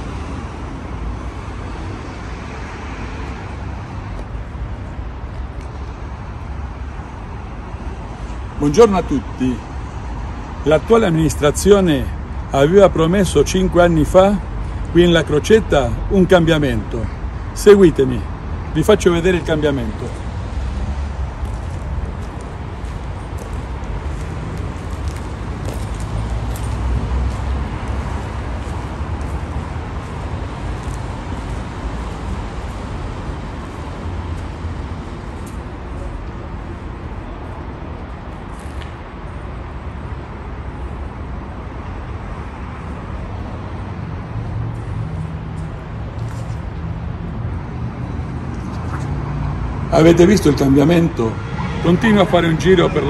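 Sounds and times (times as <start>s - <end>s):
traffic rumble: 0.0s - 53.0s.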